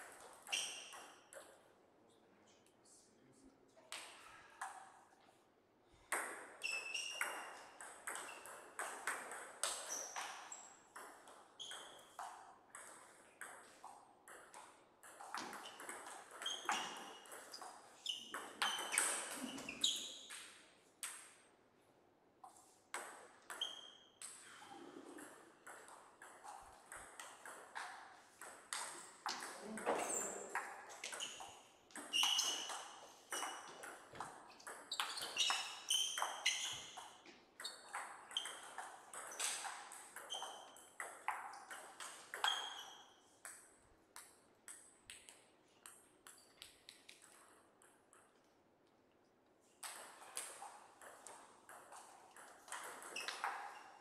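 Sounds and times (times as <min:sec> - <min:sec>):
table tennis ball bouncing: 0:06.1 - 0:21.4, 0:22.5 - 0:48.5, 0:49.8 - 0:54.0.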